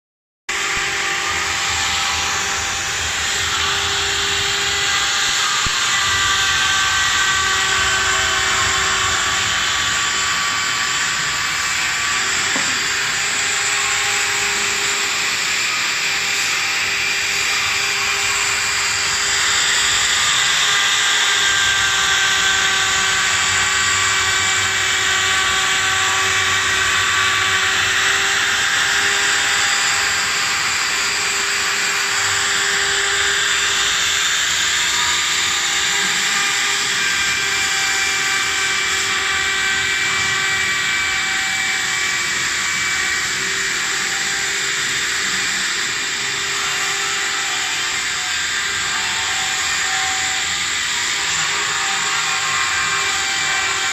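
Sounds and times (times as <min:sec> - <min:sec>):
router motor cutting wood: 0:00.5 - 0:53.9.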